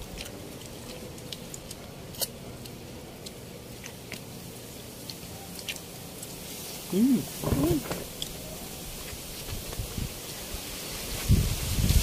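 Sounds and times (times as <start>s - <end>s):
people chewing and smacking: 0.0s - 10.4s.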